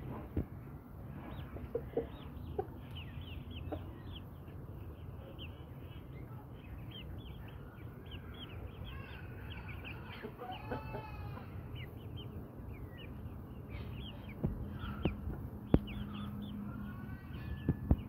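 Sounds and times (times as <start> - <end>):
steady low rumble: 0.0 - 10.4, 11.4 - 18.0
chicks peeping: 0.0 - 18.0
chicken clucks: 1.1 - 4.6, 6.9 - 18.0.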